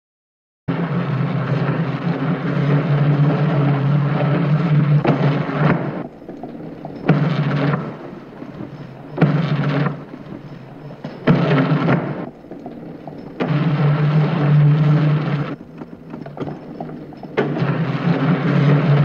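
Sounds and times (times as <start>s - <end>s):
rough rumbling bursts: 0.7s - 19.0s.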